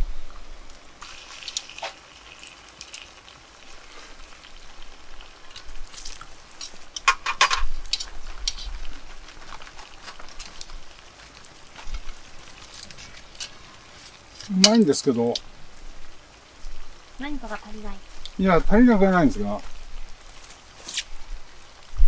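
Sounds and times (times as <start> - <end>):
food crackling and sizzling in a pot: 0.0 - 22.0.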